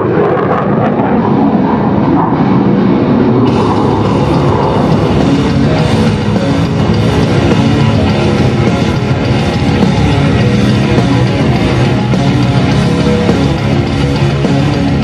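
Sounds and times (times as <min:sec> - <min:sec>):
jet noise: 0:00.0 - 0:15.0
loud rock music: 0:00.0 - 0:15.0.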